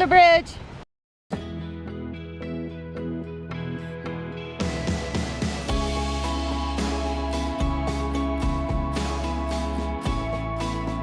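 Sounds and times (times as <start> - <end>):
held bass: 1.3 - 11.0.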